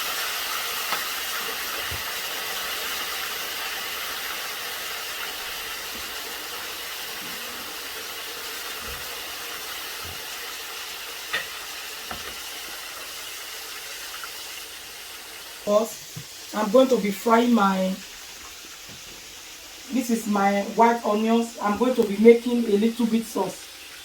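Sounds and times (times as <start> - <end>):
plantain sizzling in hot oil: 0.0 - 24.0.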